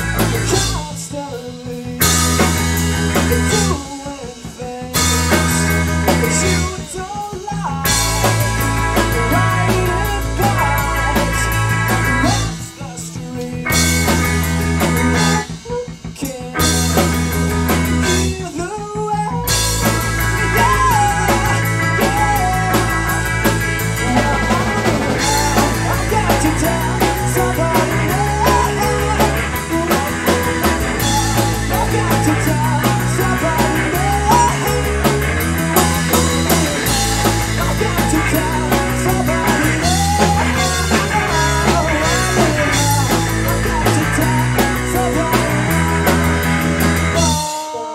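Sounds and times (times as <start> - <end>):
person singing: 0.0 - 47.9
rock band playing: 0.0 - 47.9.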